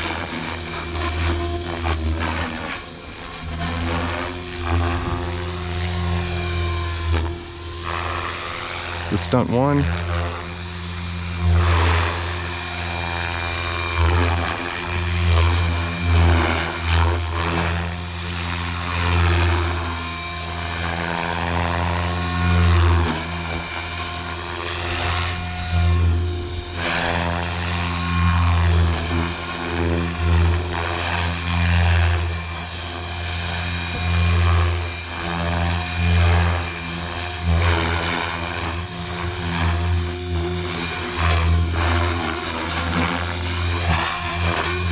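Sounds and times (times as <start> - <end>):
rc helicopter motor and rotor hum: 0.0 - 44.9.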